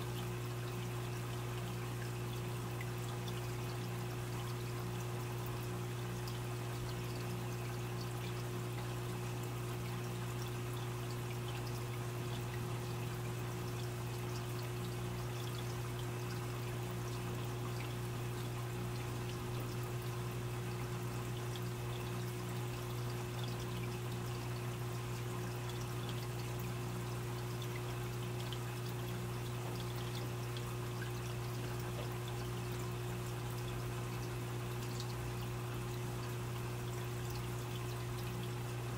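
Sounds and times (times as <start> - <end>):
aquarium water trickling and splashing: 0.0 - 38.9
constant low hum: 0.0 - 38.9.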